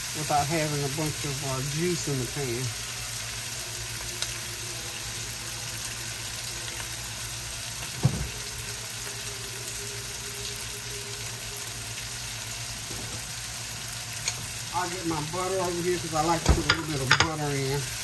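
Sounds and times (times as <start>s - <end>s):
shrimp sizzling in a wok: 0.0s - 18.0s.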